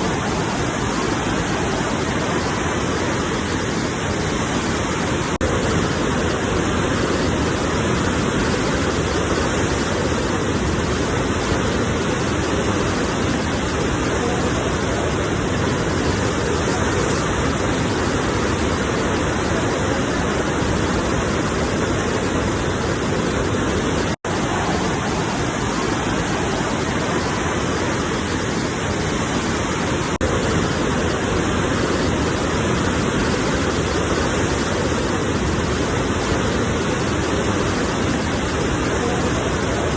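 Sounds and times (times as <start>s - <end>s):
sea waves roaring: 0.0s - 39.9s.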